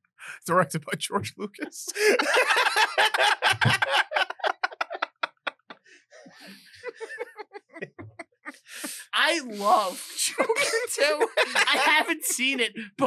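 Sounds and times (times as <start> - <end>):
people laughing: 0.3 - 13.0.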